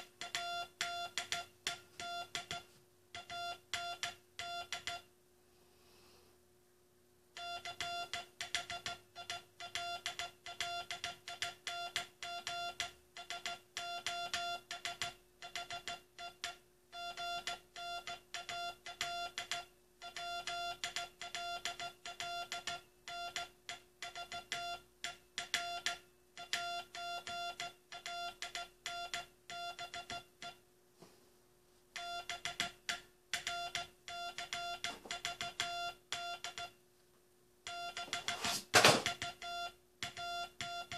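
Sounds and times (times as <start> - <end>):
morse code beeps: 0.0 - 5.1, 7.4 - 30.6, 32.0 - 36.8, 37.7 - 40.9.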